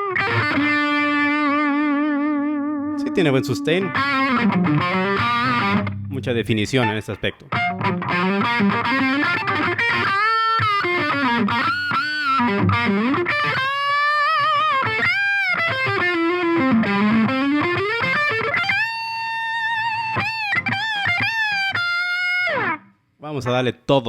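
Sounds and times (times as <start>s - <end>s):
distorted electric guitar lead: 0.0s - 22.9s.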